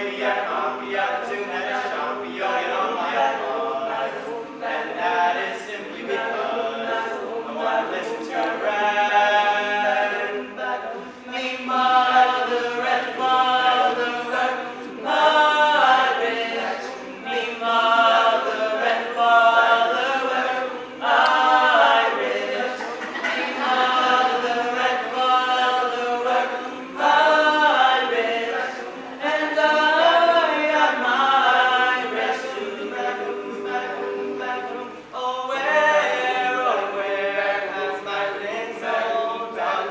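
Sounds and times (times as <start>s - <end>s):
male a cappella group singing: 0.0s - 39.9s.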